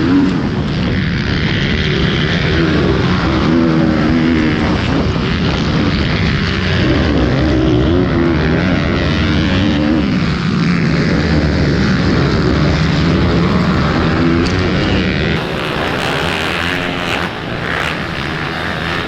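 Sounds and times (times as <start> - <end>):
minibike engine revving: 0.0 - 19.0.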